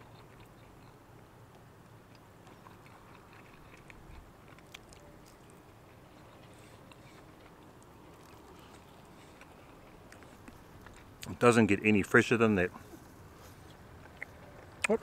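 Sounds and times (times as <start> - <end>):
person chewing food: 0.0 - 11.3, 12.8 - 15.0.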